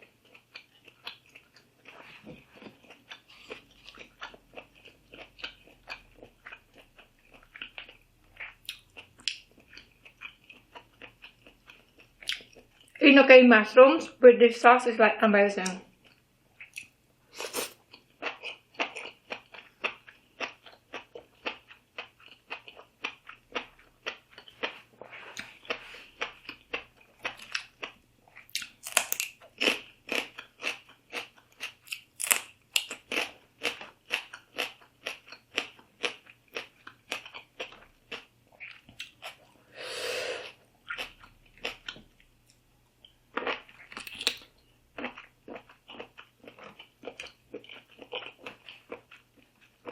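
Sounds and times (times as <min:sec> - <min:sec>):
person chewing and crunching food: 0:00.0 - 0:13.0, 0:15.6 - 0:49.9.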